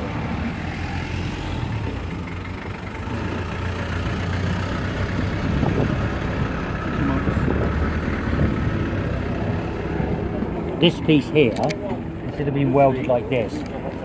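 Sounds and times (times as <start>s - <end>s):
low engine rumble: 0.0s - 14.0s
faint voices: 2.4s - 14.0s.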